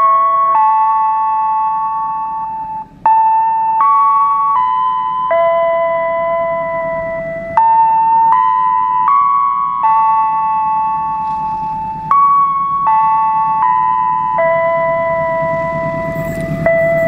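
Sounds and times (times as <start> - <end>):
slow keyboard melody: 0.0 - 17.0.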